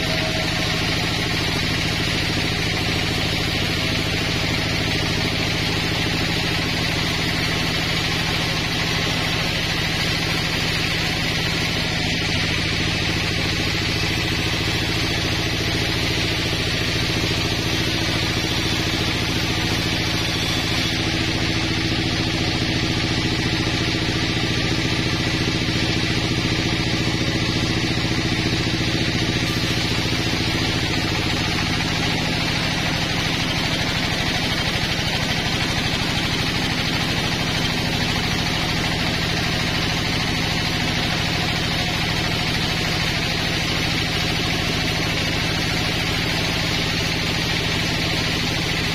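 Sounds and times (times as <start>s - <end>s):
band saw cutting wood: 0.0s - 42.1s.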